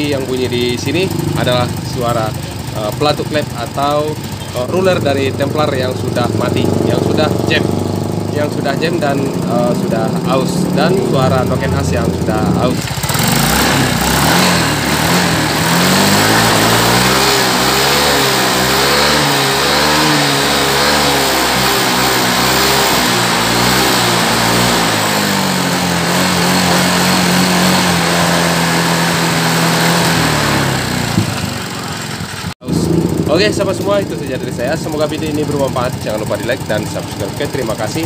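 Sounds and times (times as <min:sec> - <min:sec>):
scooter engine revving: 0:00.0 - 0:38.0.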